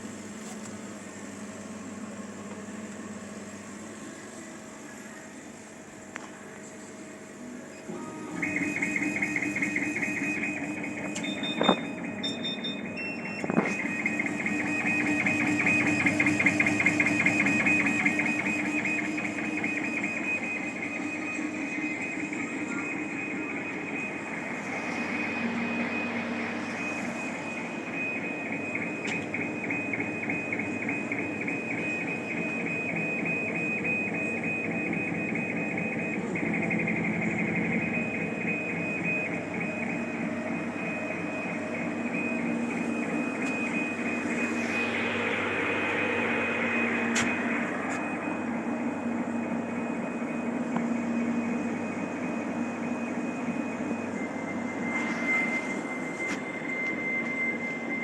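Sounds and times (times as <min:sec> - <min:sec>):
fan and pump noise: 0:00.0 - 0:58.0
high pulsing motor whine: 0:00.0 - 0:58.0.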